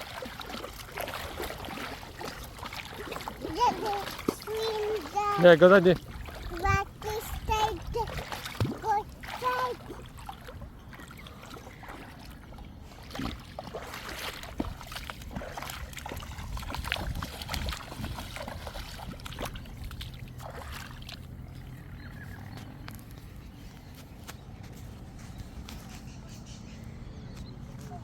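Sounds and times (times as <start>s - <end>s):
water splashing from swimming: 0.0s - 23.1s.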